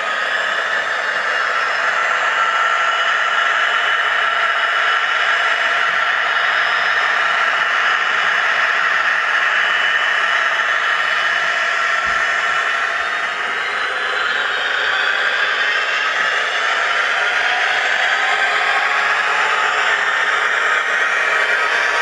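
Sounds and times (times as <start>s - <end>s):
faint steady whines: 0.0s - 22.0s
model train running noise: 0.0s - 22.0s.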